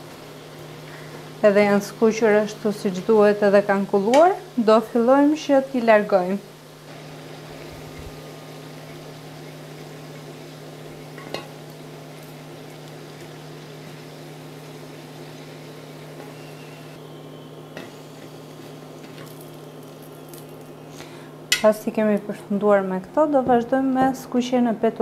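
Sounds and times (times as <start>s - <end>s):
oil sizzling in a pan: 0.0s - 21.9s.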